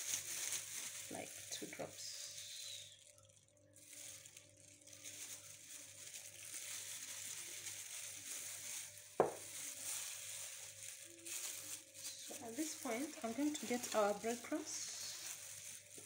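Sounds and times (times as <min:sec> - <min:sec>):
plastic gloves rustling: 0:00.0 - 0:16.0.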